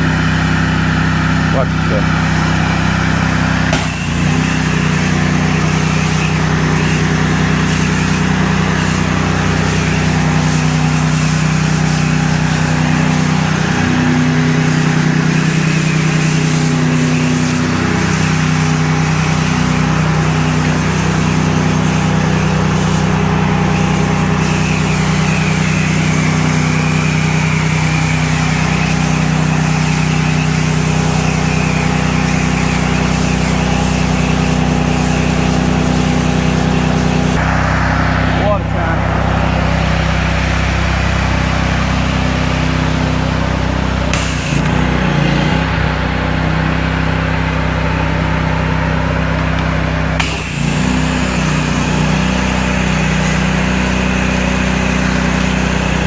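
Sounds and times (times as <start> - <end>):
high-pressure water jet hissing: 0.0 - 47.8, 50.0 - 56.0
pressure washer engine hum: 0.0 - 56.0.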